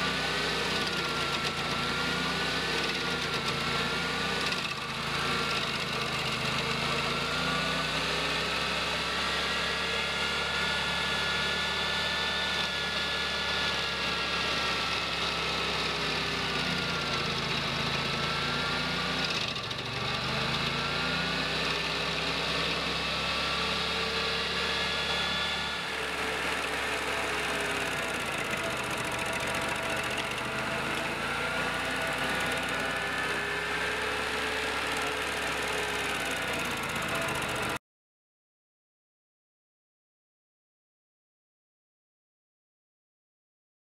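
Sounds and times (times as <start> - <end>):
cutting wheel grinding wood: 0.0 - 37.8
stump grinder engine under load: 0.0 - 37.8.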